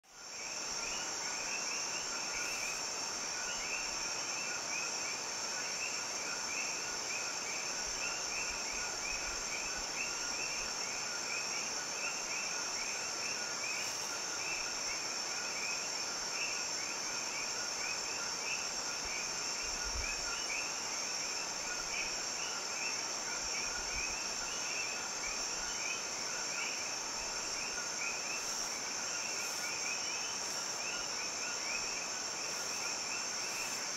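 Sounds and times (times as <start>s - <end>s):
insects chirping: 0.1s - 33.9s
insects shrill hum: 0.1s - 33.9s.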